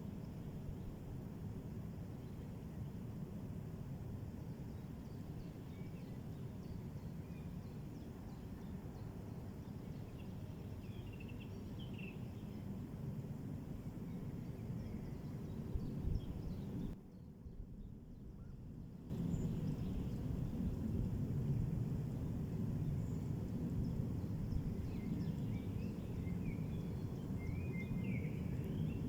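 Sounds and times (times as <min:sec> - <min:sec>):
low rumbling background noise: 0:00.0 - 0:29.0.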